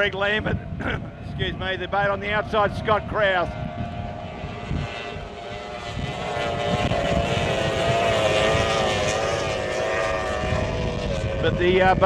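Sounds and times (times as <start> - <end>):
race boat engines running flat out: 0.0 - 12.0.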